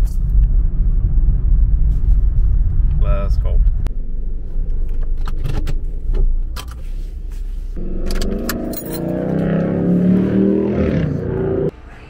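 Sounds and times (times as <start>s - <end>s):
car engine rumbling: 0.0s - 11.8s.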